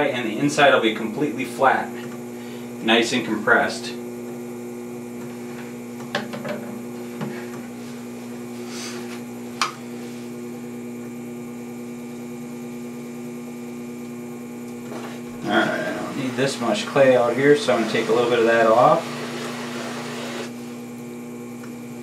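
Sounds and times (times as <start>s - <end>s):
potter's wheel humming: 0.0s - 22.0s.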